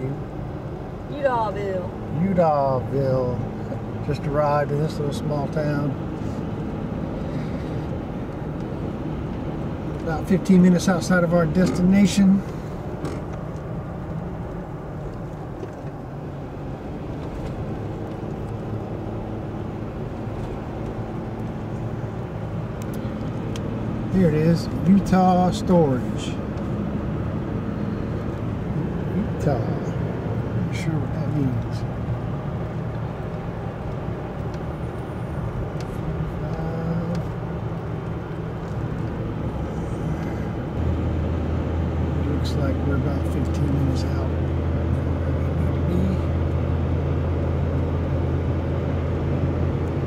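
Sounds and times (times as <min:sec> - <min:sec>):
road rumble: 0:00.0 - 0:50.0
vehicle engine hum: 0:00.0 - 0:50.0.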